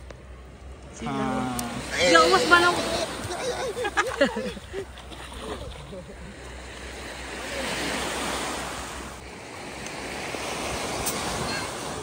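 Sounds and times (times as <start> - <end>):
sea surf washing on shore: 0.8 - 12.0.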